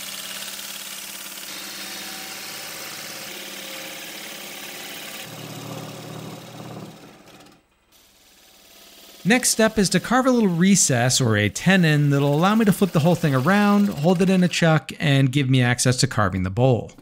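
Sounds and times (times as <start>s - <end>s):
wood lathe motor hum: 0.0s - 14.6s
turning tool cutting wood: 0.0s - 14.9s.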